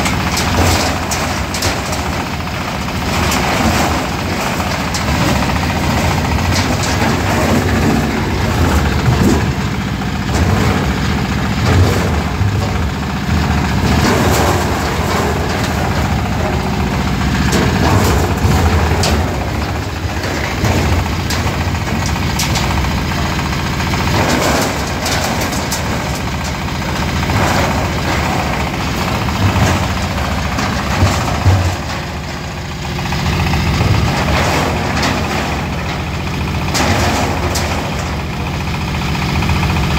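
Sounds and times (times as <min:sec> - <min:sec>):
diesel engine running: 0:00.0 - 0:39.9
machine clattering knocks: 0:00.0 - 0:39.9.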